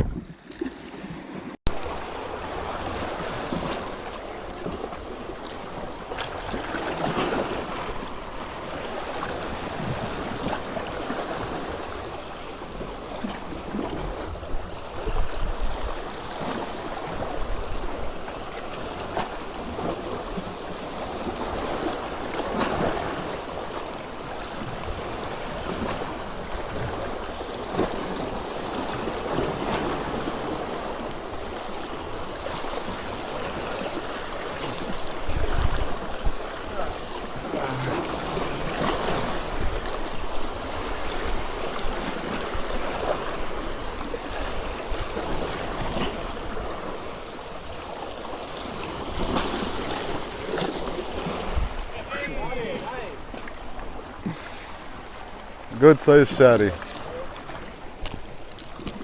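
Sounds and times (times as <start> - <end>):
sea waves on rocky shore: 0.0 - 59.0.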